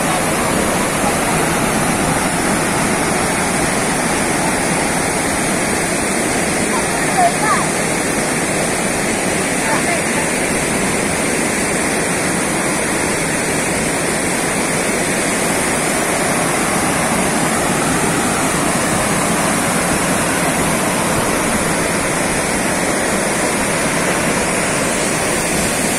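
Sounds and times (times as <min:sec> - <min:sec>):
rushing falling water: 0:00.0 - 0:25.9.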